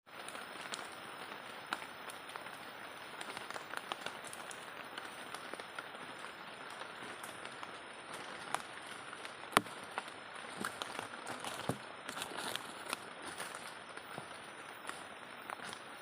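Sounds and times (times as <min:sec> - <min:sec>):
raindrops tapping surfaces: 0:00.1 - 0:16.0
steady rain hiss: 0:00.1 - 0:16.0.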